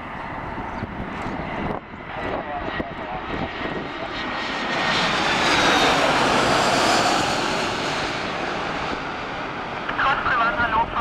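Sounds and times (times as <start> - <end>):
airliner engines rushing: 0.0 - 11.0.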